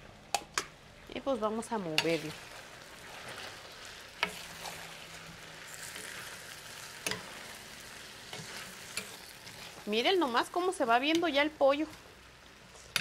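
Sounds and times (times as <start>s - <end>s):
food sizzling in a pot: 0.4s - 13.0s.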